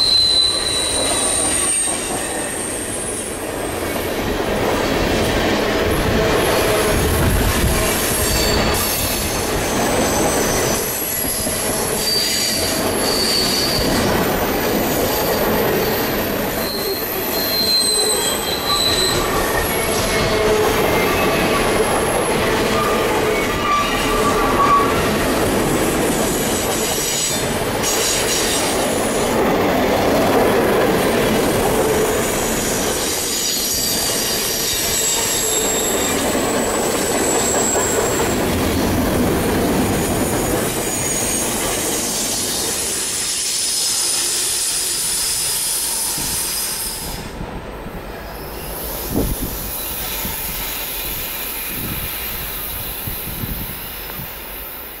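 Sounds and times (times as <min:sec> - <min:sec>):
steel wheels squealing: 0:00.0 - 0:04.0, 0:04.8 - 0:47.4, 0:48.2 - 0:55.0
freight train rumbling past: 0:00.0 - 0:55.0.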